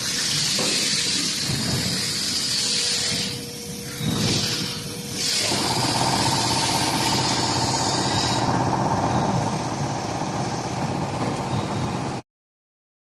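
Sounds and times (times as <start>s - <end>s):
machine mechanical hum: 0.0s - 12.2s.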